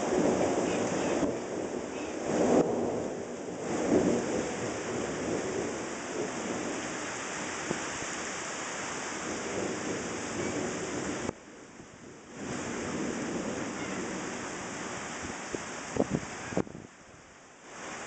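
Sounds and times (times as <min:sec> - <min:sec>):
low rolling thunder: 0:00.0 - 0:11.4, 0:12.0 - 0:16.8
steady rain: 0:00.0 - 0:18.0.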